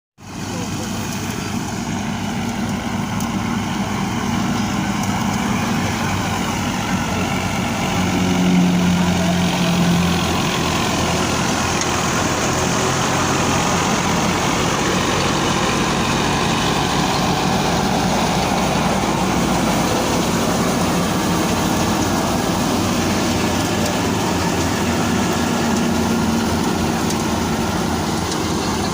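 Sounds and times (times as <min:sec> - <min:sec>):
harvester engine running: 0:00.2 - 0:28.9.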